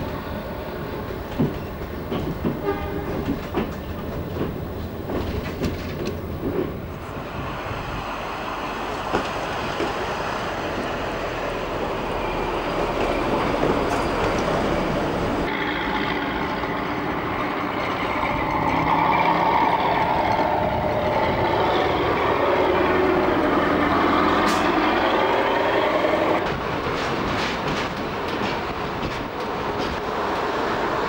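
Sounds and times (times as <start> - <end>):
wheels clicking over rail joints: 0.0 - 7.2, 12.7 - 31.0
rail motor engine and wheels: 0.0 - 31.0.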